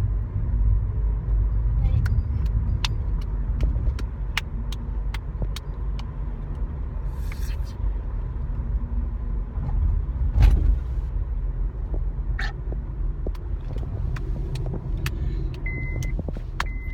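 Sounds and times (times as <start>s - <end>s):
car cabin rumble: 1.3s - 7.6s, 9.5s - 16.9s.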